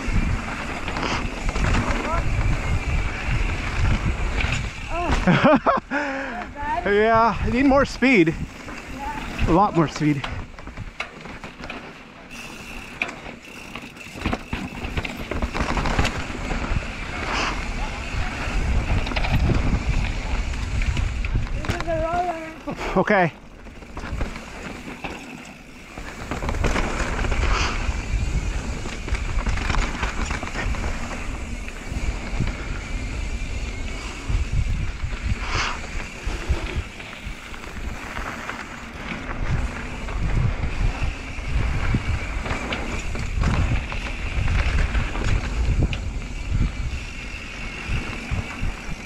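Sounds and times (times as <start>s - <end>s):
wind buffeting microphone: 0.0s - 11.0s, 14.1s - 49.0s
bike rattling: 0.0s - 49.0s
tyres rolling on dirt trail: 0.0s - 49.0s.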